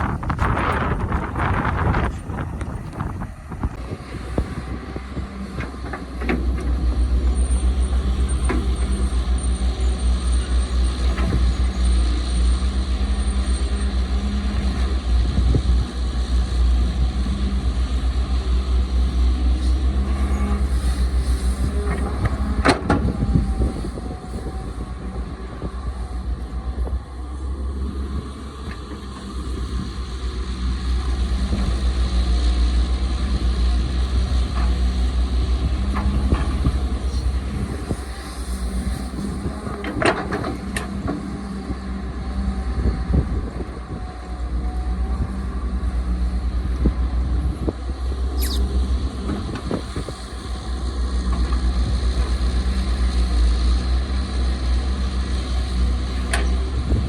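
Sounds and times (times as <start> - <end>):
excavator diesel engine rumbling: 0.0 - 57.0.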